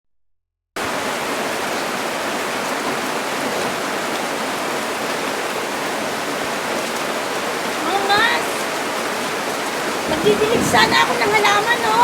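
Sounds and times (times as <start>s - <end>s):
heavy rain pouring: 0.8s - 12.0s.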